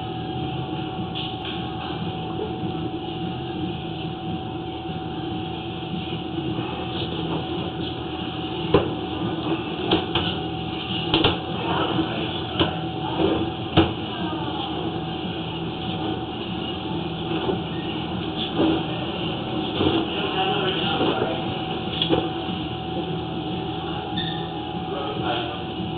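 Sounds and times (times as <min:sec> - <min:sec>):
machine running with whine: 0:00.0 - 0:25.9.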